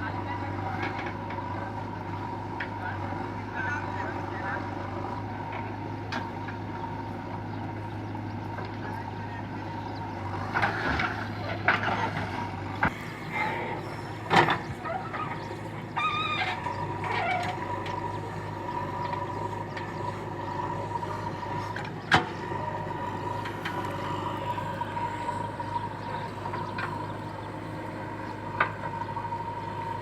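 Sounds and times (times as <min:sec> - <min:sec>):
diesel engine running with whine: 0:00.0 - 0:30.0.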